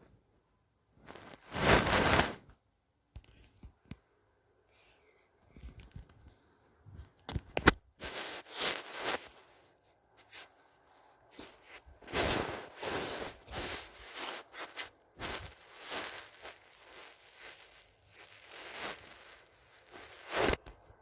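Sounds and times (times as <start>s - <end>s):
rustling handling noise: 1.0s - 2.6s, 5.5s - 21.0s.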